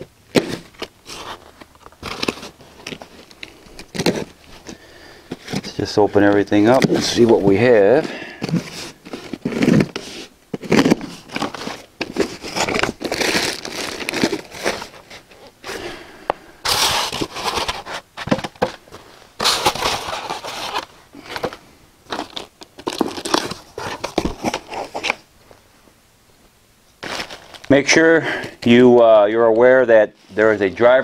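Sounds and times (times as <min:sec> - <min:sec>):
packaging crinkling and tearing: 0:00.0 - 0:15.8, 0:16.6 - 0:25.3, 0:27.0 - 0:31.0.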